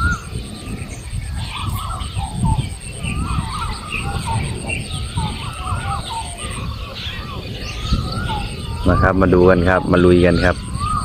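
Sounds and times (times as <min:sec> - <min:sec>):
chorus of birds calling: 0:00.0 - 0:11.0.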